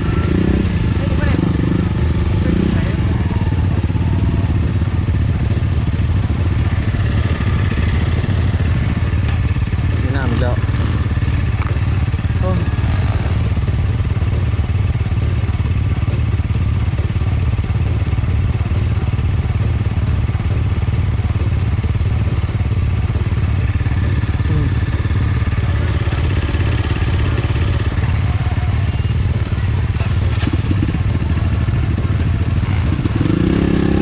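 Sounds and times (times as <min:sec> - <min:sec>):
dirt bike engine running: 0:00.0 - 0:34.0.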